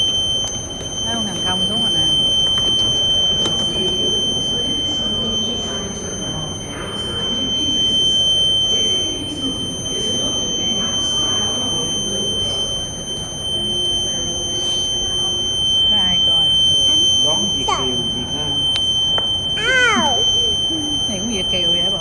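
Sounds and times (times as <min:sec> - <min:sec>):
high-pitched electronic alarm tone: 0:00.0 - 0:22.0
voices murmuring: 0:00.0 - 0:22.0.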